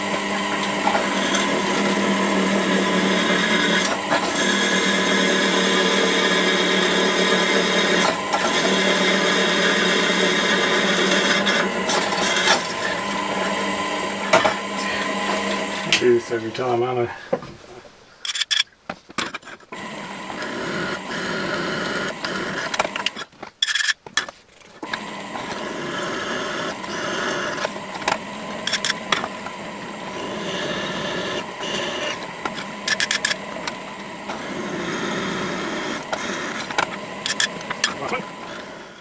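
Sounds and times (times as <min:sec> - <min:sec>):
drill press motor humming: 0:00.0 - 0:17.6, 0:19.3 - 0:39.0.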